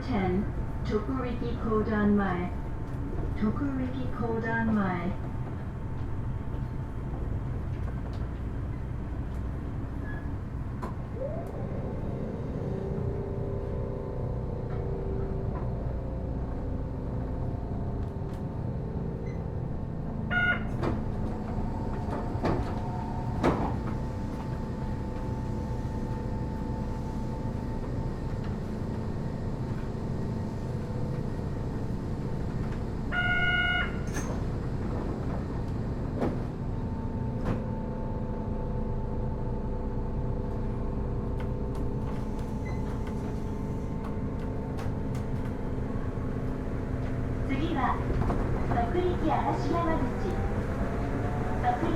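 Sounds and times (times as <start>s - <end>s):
train onboard equipment hum: 0.0s - 51.9s.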